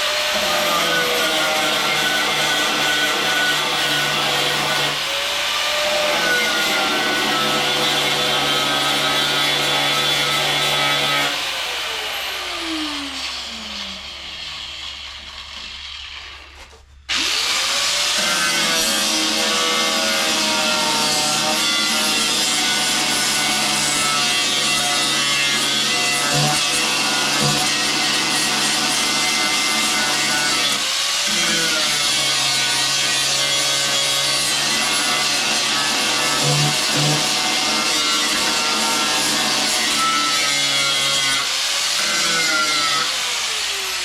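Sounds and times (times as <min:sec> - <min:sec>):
angle grinder grinding on steel: 0:00.0 - 0:44.0.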